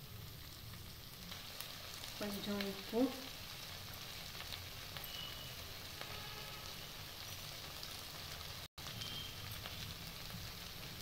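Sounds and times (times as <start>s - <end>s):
filling sizzling in oil: 0.0s - 11.0s.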